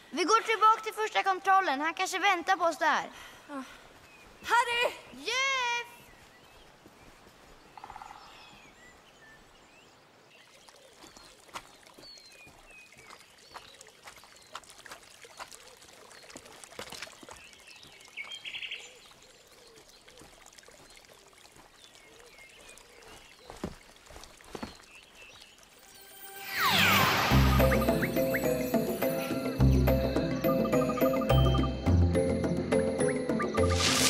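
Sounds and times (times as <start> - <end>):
small birds chirping: 1.0 - 33.7.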